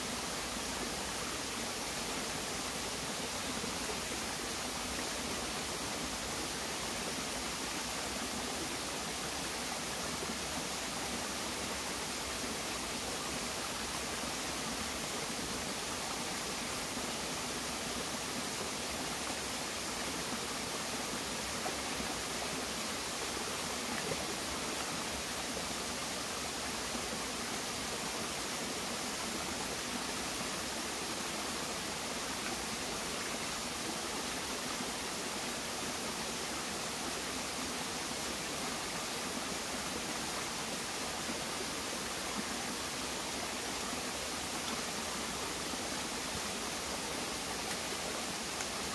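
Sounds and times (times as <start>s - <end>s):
stream running over rocks: 0.0s - 48.9s.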